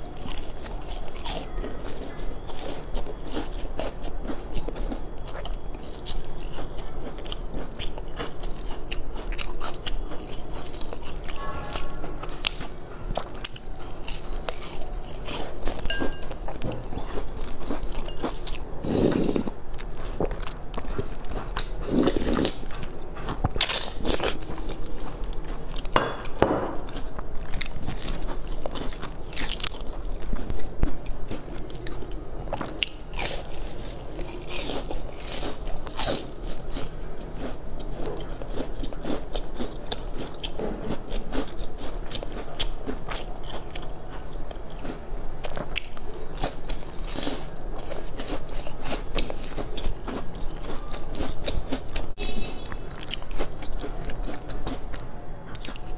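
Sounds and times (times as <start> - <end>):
biting into pastries: 0.0 - 26.0, 26.9 - 55.9
crunching and chewing: 0.0 - 55.9.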